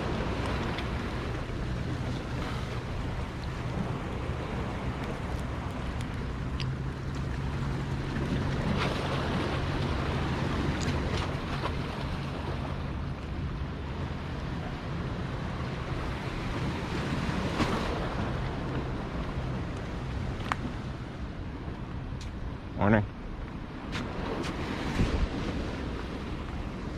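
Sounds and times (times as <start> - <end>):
ocean surf washing on shore: 0.0 - 26.9
wind buffeting microphone: 0.0 - 26.9.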